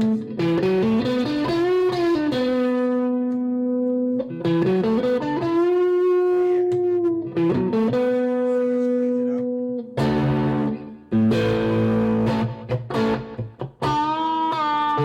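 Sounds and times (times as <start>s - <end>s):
electric guitar lead through amp: 0.0s - 15.0s.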